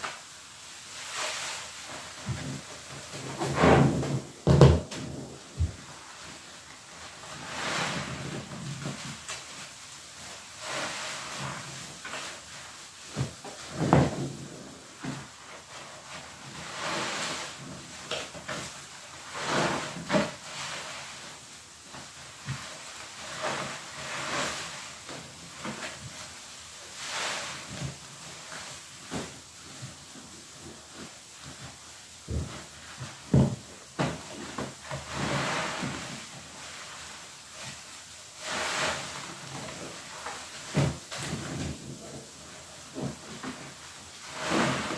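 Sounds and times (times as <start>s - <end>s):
foam hissing and crackling: 0.0s - 44.9s.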